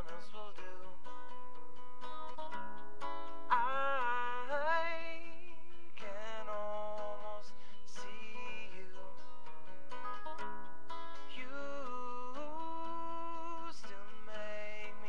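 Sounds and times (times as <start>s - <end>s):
person singing: 0.0s - 1.6s, 2.2s - 15.0s
plucked guitar: 0.0s - 15.0s.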